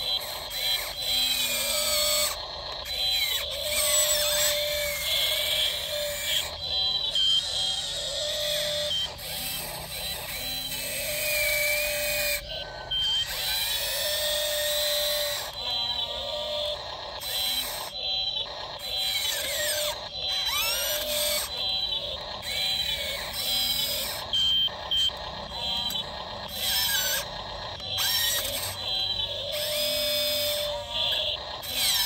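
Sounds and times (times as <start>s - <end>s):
small electric motors whining: 0.0s - 32.0s.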